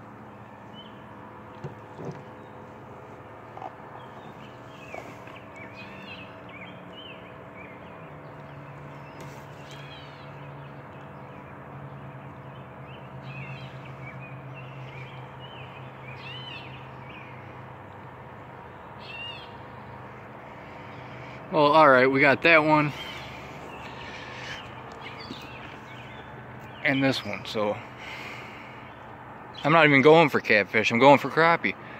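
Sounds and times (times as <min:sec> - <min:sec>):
songbirds chirping: 0:00.0 - 0:31.9
steady low hum: 0:00.0 - 0:31.9.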